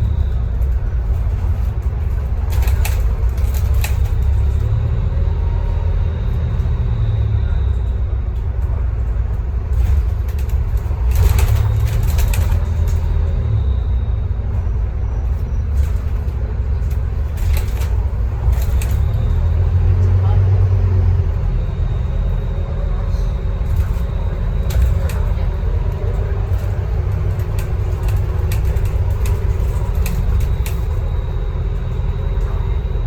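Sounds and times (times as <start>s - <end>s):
bus diesel engine rumbling: 0.0s - 33.0s.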